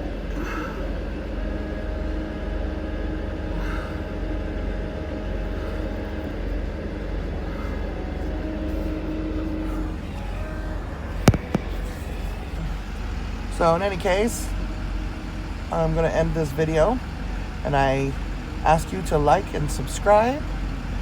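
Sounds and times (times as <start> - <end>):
car engine hum: 0.0 - 21.0
road rumble: 0.0 - 21.0.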